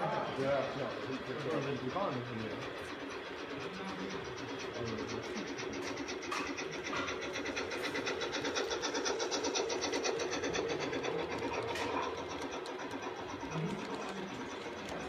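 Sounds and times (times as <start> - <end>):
model train motor hum: 0.0 - 15.0
rapid ticking of passing train: 0.0 - 15.0.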